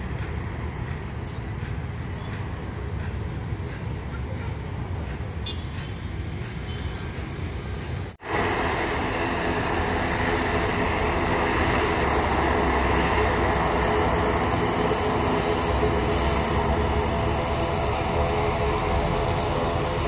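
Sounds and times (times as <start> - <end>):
aircraft engines running: 0.0 - 20.0.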